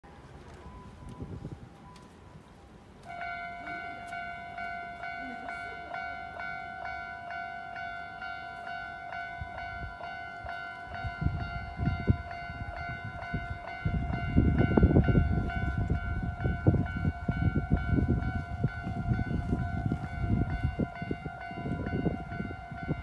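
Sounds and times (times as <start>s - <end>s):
level crossing bell clanging: 3.0s - 23.0s.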